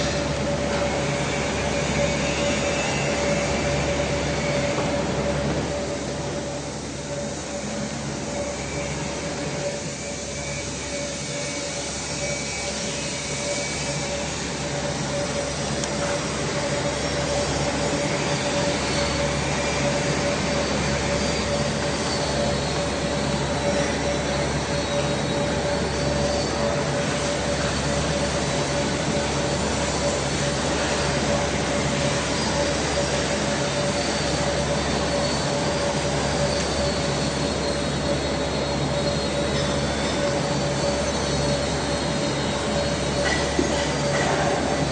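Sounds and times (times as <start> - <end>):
workshop machinery hum: 0.0 - 44.9.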